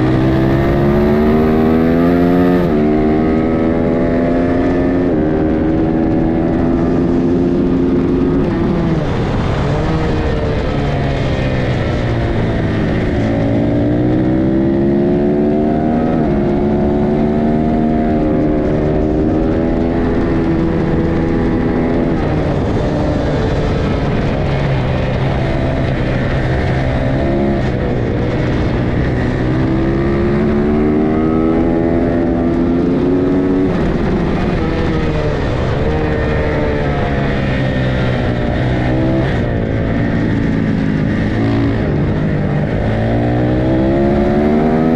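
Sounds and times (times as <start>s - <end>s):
race motorcycle engines revving: 0.0s - 44.9s.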